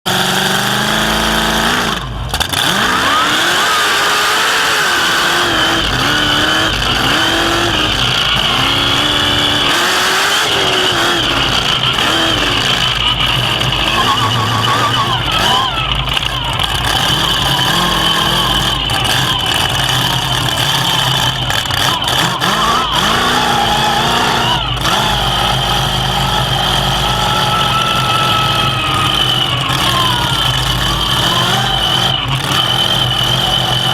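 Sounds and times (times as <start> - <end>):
racing truck engine revving: 0.0 - 33.9.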